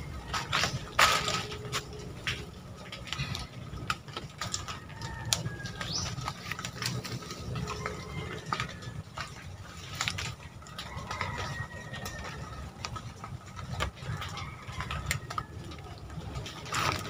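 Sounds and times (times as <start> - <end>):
dry leaves crackling: 0.0 - 17.0
low handling rumble: 0.0 - 17.0.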